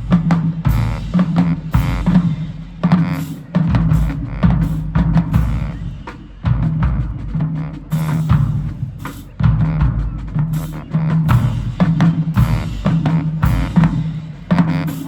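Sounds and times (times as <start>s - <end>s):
low brass notes: 0.0s - 15.0s.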